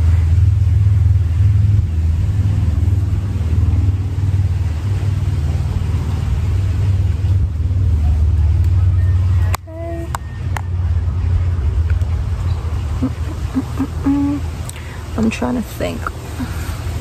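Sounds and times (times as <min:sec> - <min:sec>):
loud low rumble: 0:00.0 - 0:17.0.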